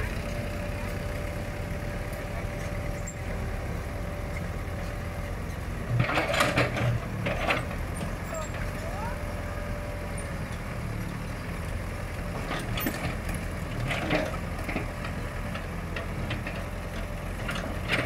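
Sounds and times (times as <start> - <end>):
excavator diesel engine idling: 0.0 - 18.0.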